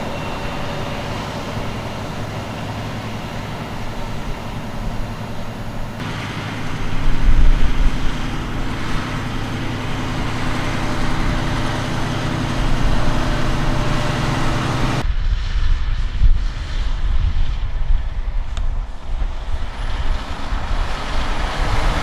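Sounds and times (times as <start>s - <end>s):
tractor engine running under load: 0.0s - 15.0s, 18.7s - 22.0s.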